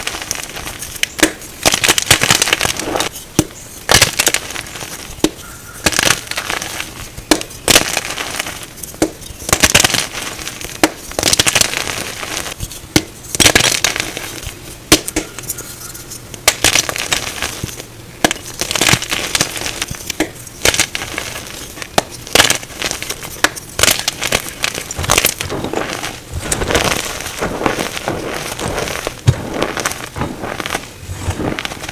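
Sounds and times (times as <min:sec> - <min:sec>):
chalk blocks crunching: 0:00.0 - 0:31.9.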